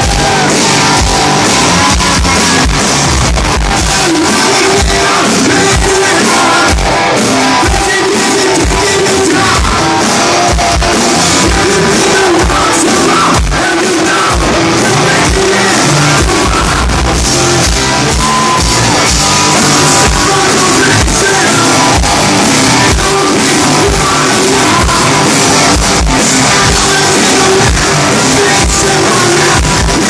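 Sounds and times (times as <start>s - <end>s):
electric guitars: 0.0s - 30.0s
person singing: 0.0s - 30.0s
steady drum beat: 0.0s - 30.0s.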